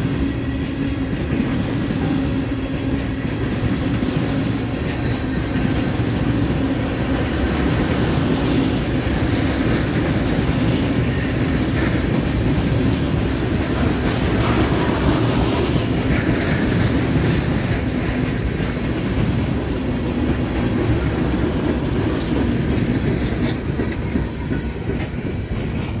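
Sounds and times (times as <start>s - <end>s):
clickety-clack over rail joints: 0.0s - 26.0s
train wheels rumbling on rails: 0.0s - 26.0s.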